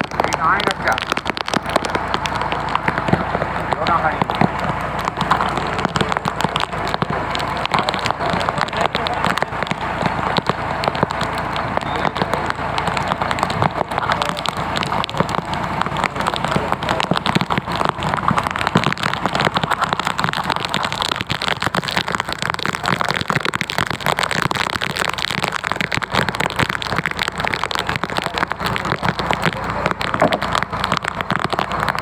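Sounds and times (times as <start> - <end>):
rain on a hard surface: 0.0 - 32.0.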